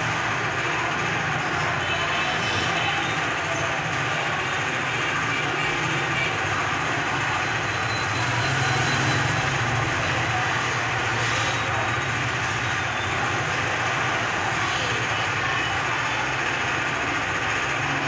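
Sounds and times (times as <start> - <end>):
motorcycle engines humming: 0.0 - 18.0
street traffic noise: 0.0 - 18.0.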